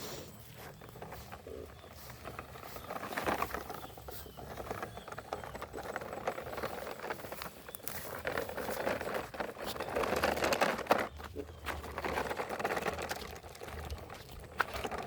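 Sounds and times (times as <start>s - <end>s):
plastic toy vehicles clicking: 0.8s - 15.0s.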